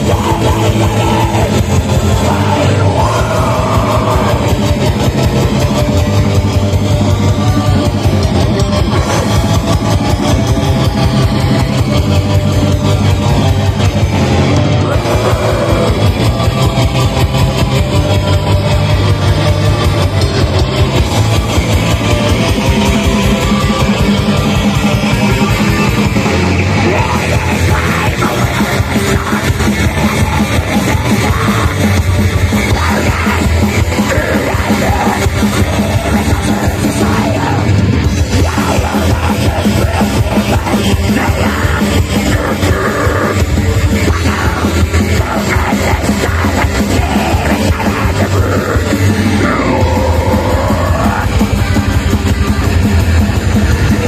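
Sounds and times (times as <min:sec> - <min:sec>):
distorted guitars: 0:00.0 - 0:54.0
fast dense drumming: 0:00.0 - 0:54.0.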